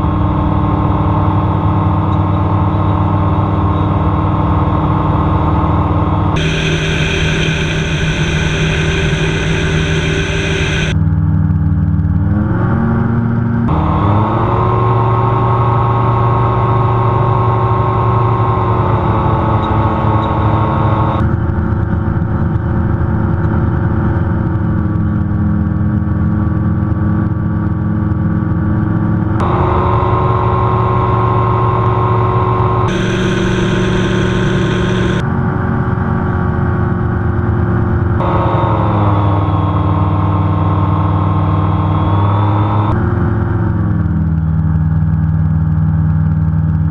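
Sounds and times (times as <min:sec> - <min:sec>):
gyroplane engine and propeller drone: 0:00.0 - 0:46.9.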